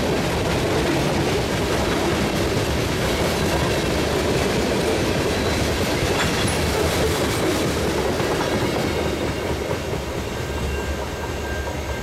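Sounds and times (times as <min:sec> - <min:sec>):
train wheels clattering over rails: 0:00.0 - 0:12.0.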